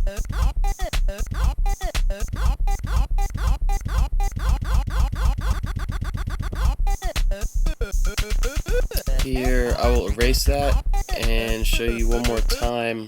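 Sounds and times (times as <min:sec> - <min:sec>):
electronic beat and bass loop: 0:00.0 - 0:12.8.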